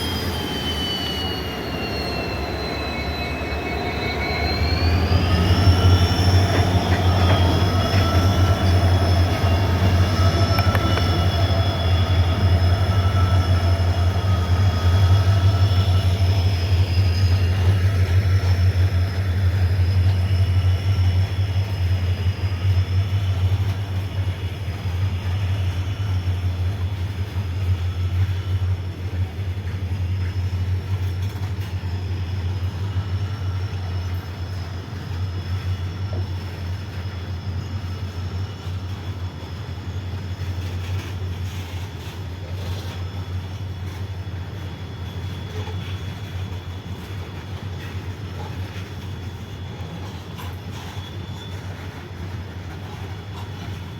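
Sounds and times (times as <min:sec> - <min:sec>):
train rolling on rails: 0:00.0 - 0:53.9
wheel squeal: 0:00.0 - 0:53.9.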